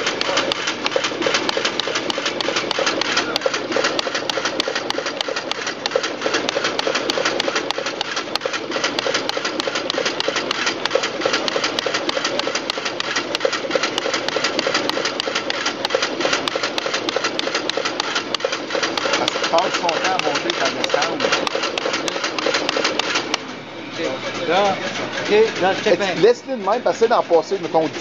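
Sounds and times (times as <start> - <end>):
rapid even ticking: 0.0 - 23.4
card cutting machine whirring: 0.0 - 28.0.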